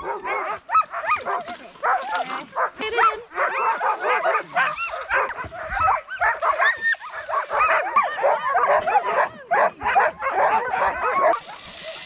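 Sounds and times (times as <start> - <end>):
dogs yipping and barking: 0.0 - 12.0.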